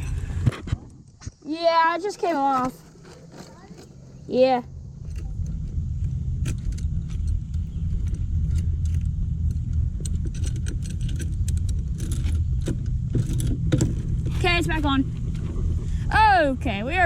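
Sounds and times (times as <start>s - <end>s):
steady low rumble: 0.0s - 17.0s
drive chain clinking and rattling: 1.7s - 16.0s.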